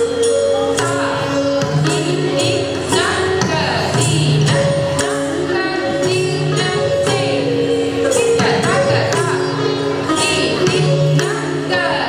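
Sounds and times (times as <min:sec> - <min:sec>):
indian classical dance music: 0:00.0 - 0:12.0
percussive strikes: 0:00.0 - 0:12.0.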